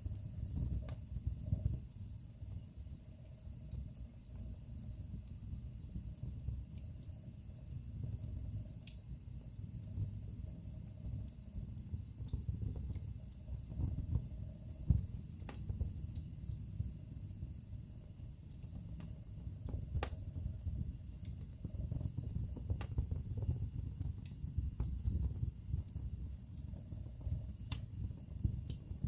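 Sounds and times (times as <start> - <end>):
logs crackling and popping: 0.0 - 29.0
low rumble of flames: 0.0 - 29.0.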